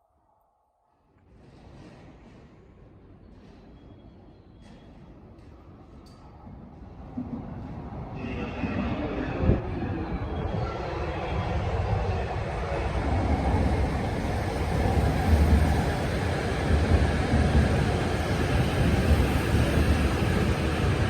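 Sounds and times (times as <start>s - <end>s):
train rumbling: 1.3s - 21.0s.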